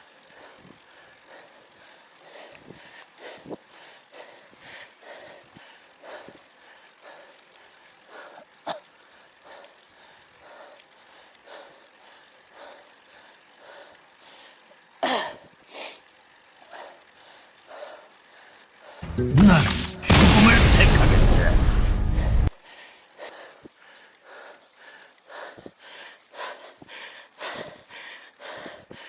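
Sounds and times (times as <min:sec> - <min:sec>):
person panting: 0:00.2 - 0:14.8, 0:16.7 - 0:19.0, 0:22.6 - 0:29.0.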